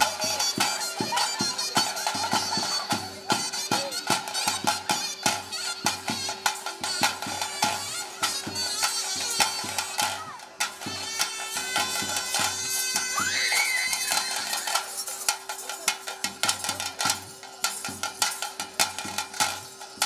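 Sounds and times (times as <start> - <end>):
double-reed pipe melody: 0.0 - 20.0
drums beating: 0.0 - 20.0.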